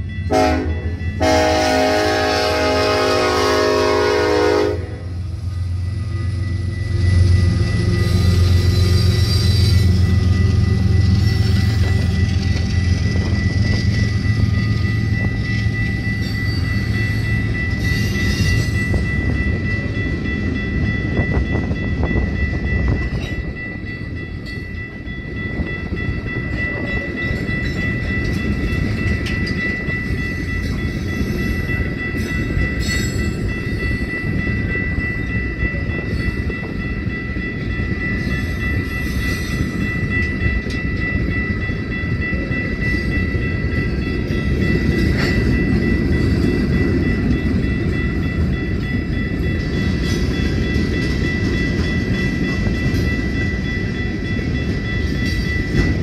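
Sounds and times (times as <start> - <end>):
crossing warning bell ringing: 0.0 - 56.0
diesel locomotive engine running: 0.0 - 56.0.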